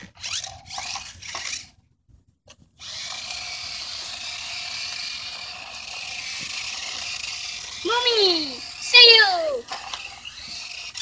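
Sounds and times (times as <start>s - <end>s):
small electric toy motor whining: 0.0s - 1.8s, 2.8s - 11.0s.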